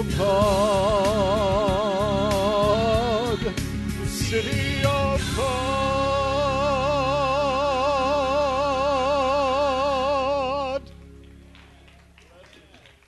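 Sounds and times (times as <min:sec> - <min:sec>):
man singing with vibrato: 0:00.0 - 0:10.8.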